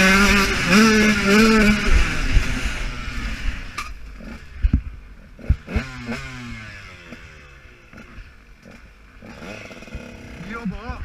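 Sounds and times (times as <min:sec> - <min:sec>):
motocross engine winding down: 0:00.0 - 0:11.0.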